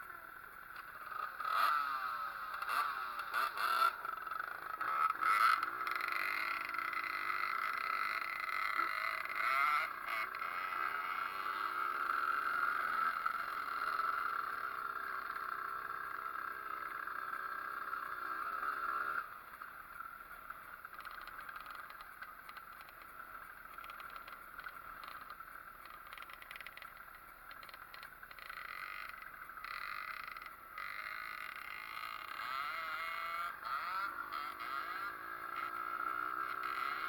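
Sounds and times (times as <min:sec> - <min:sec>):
two-stroke motorbike engine revving: 0:00.0 - 0:37.0.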